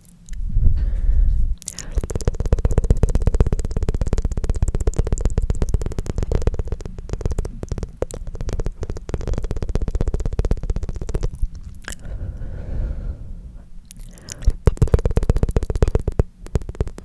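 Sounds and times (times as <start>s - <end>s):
tongue fluttering wet clicks: 0.0s - 13.0s, 13.6s - 17.0s.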